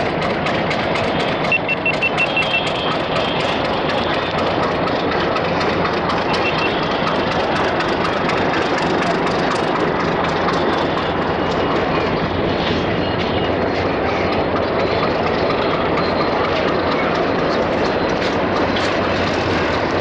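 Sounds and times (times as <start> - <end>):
locomotive engine running: 0.0 - 20.0
train wheels clattering: 0.0 - 20.0.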